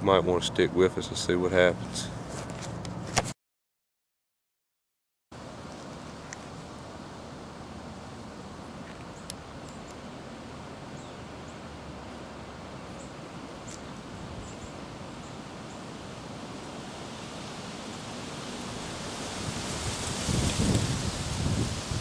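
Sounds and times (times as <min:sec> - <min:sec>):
outdoor background hiss: 0:00.0 - 0:03.2, 0:05.4 - 0:22.0.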